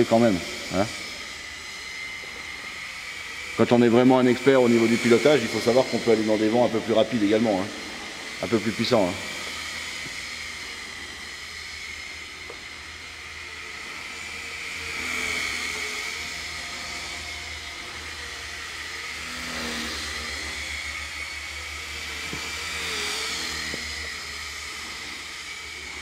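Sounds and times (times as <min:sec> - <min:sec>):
rc helicopter motor whine: 0:00.0 - 0:26.0.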